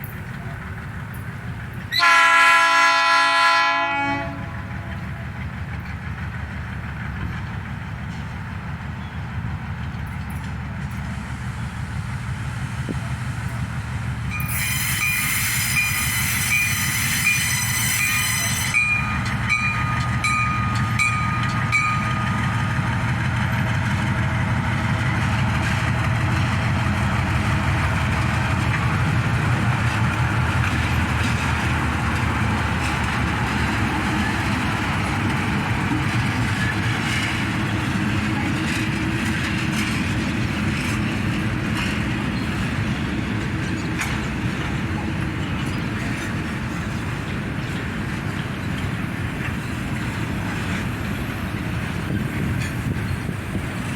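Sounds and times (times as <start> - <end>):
diesel locomotives running: 0.0 - 53.9
wagons rumbling over rails: 0.0 - 53.9.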